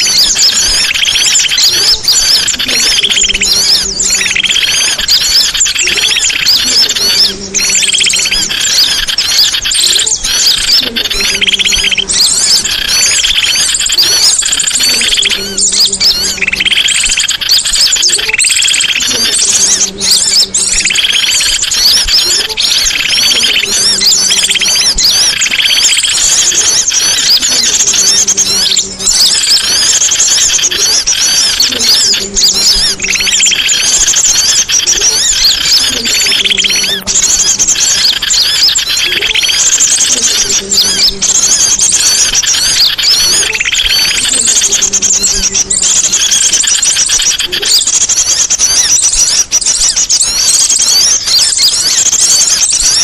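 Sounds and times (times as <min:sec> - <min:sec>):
low coo-like bird call: 0:00.0 - 0:53.0
songbirds chirping and trilling: 0:00.0 - 0:53.0.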